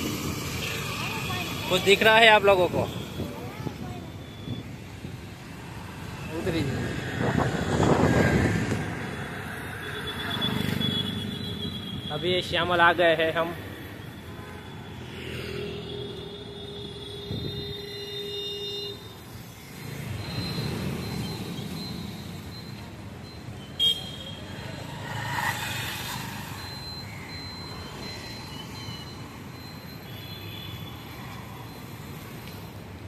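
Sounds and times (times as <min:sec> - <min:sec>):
scooters and cars passing: 0:00.0 - 0:33.0.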